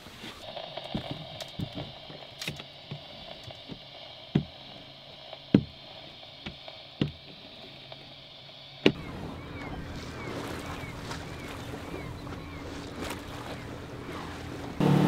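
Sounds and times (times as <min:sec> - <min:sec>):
footsteps on boat deck: 0:00.1 - 0:04.8, 0:05.5 - 0:08.1, 0:08.8 - 0:15.0
steady low hum: 0:00.4 - 0:15.0.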